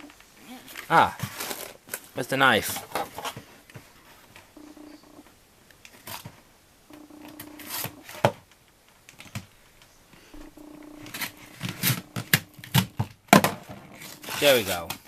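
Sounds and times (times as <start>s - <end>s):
faint low hum: 2.8s - 15.0s.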